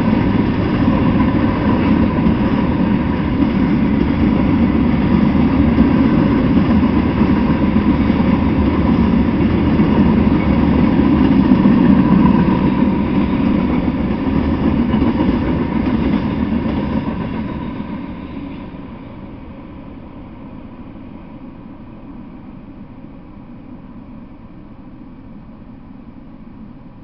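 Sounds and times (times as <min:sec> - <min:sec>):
freight train wheels on track: 0:00.0 - 0:27.0.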